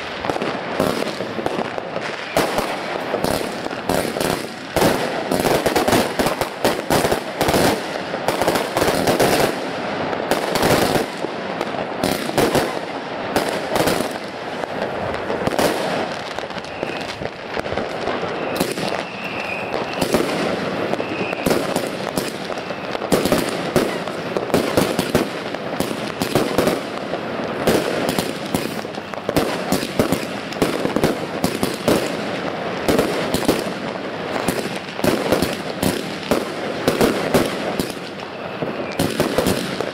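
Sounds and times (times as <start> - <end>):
firework crackle: 0.0 - 39.9
fireworks barrage: 0.0 - 39.9.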